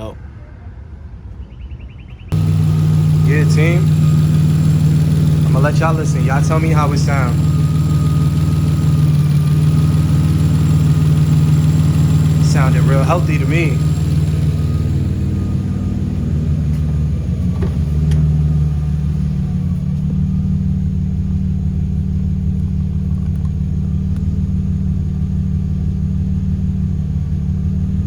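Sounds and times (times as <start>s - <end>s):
car engine idling: 2.3s - 28.0s.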